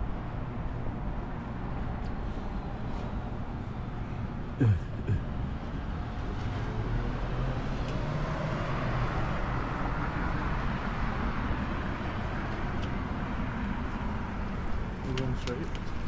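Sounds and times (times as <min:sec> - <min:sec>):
low rumble of cars passing: 0:00.0 - 0:16.0.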